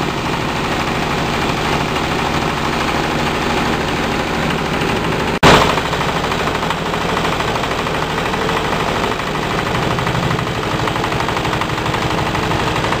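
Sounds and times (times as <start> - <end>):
crushing machine clattering: 0.0 - 13.0.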